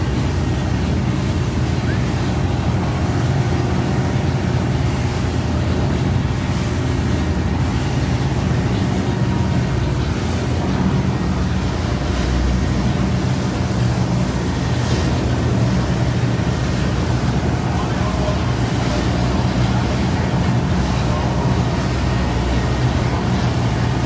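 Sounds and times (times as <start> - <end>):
boat engine droning: 0.0 - 24.0
water rushing along hull: 0.0 - 24.0.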